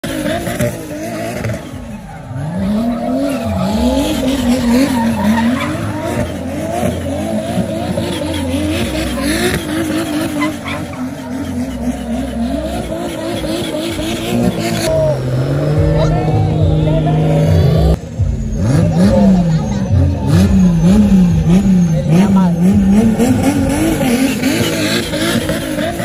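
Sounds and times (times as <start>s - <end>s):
car engine revving: 0.0s - 26.0s
tyres squealing: 0.2s - 26.0s.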